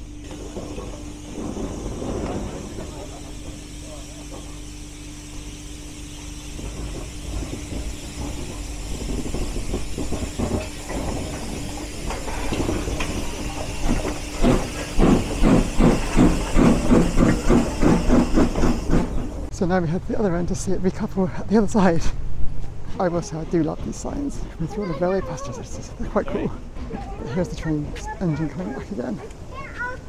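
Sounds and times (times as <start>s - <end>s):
steam locomotive hissing and chuffing: 0.0s - 22.3s, 22.9s - 30.0s.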